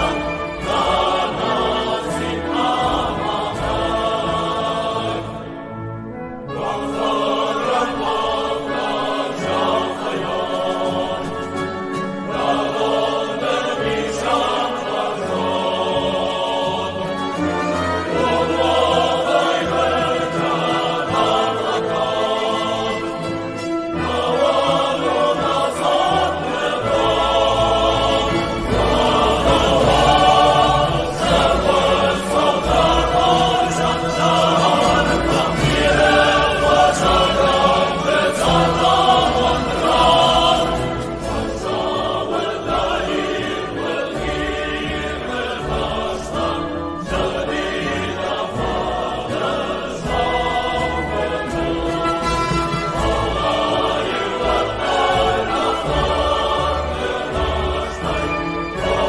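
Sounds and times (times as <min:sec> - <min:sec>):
choir singing with orchestra: 0:00.0 - 0:59.0.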